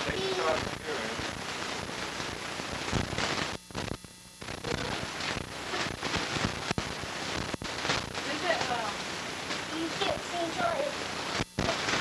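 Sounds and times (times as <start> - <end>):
tape static with pops and clicks: 0.0 - 12.0.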